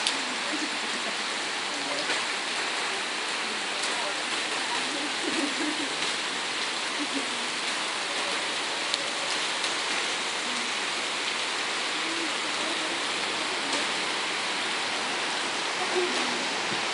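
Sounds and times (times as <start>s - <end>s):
rain pouring on flooded street: 0.0s - 16.9s.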